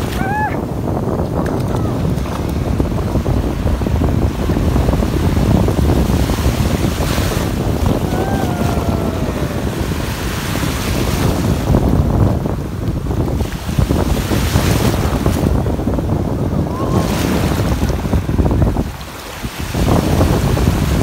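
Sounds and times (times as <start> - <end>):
surf washing around feet: 0.0 - 21.0
wind buffeting microphone: 0.0 - 21.0.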